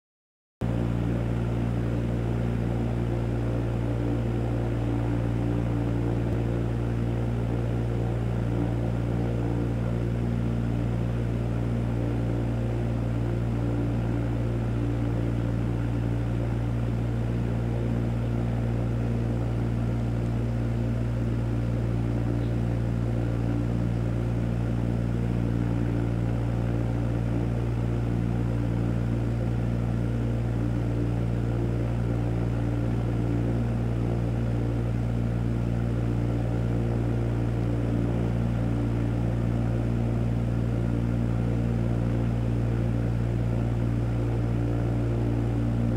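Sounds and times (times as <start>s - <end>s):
aquarium pump humming: 0.6s - 45.9s.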